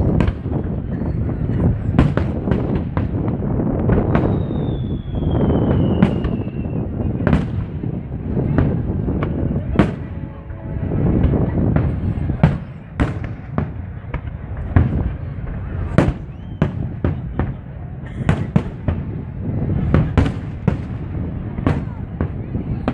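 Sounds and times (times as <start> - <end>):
crowd murmur: 0.0 - 22.9
firework shells booming: 0.0 - 22.9.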